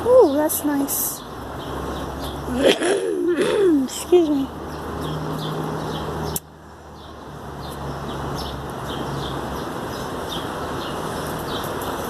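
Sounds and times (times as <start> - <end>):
outdoor background noise: 0.0 - 12.0
bird chirping: 0.2 - 12.0.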